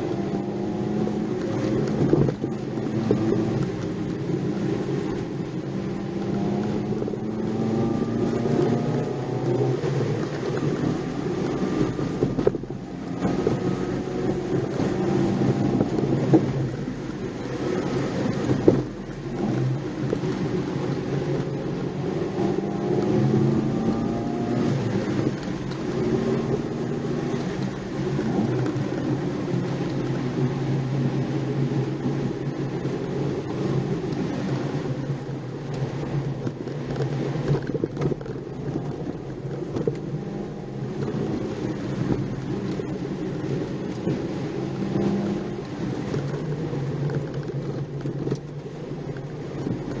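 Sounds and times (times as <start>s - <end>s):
car engine revving: 0.0s - 50.0s
tyre and road noise: 0.0s - 50.0s.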